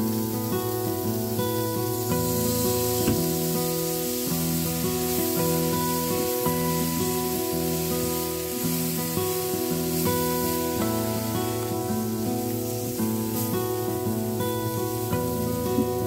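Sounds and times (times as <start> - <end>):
food sizzling in a pan: 0.0 - 16.0
instrumental music with held notes: 0.0 - 16.0.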